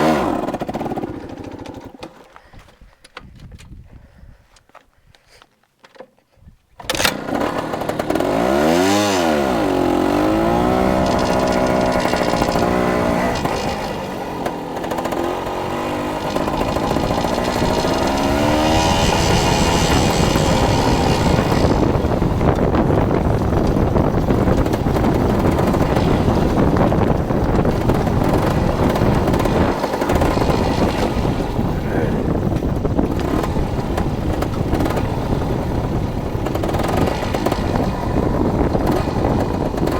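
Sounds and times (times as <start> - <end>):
dirt bike engine revving: 0.0 - 2.0, 6.9 - 39.9.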